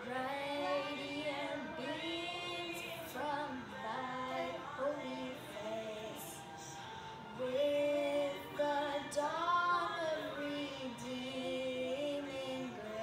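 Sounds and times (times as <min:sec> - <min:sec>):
backing music: 0:00.0 - 0:13.0
woman singing: 0:00.0 - 0:13.0.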